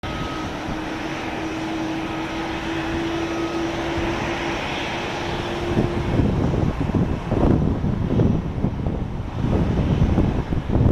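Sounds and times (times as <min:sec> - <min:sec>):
jet engines roaring: 0:00.0 - 0:10.9
wind hitting microphone: 0:00.0 - 0:10.9.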